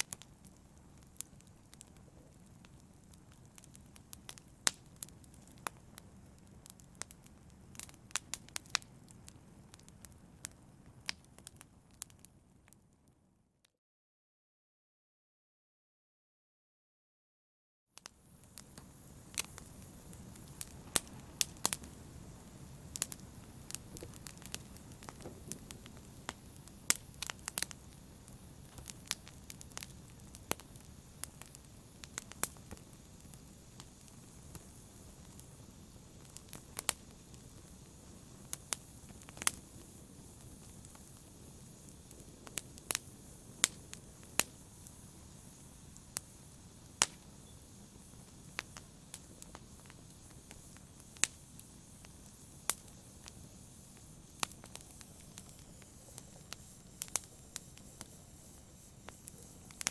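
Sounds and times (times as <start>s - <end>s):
fire flames rumbling: 0.0s - 12.2s, 18.1s - 59.9s
fire crackling and popping: 0.0s - 13.1s, 18.0s - 59.9s.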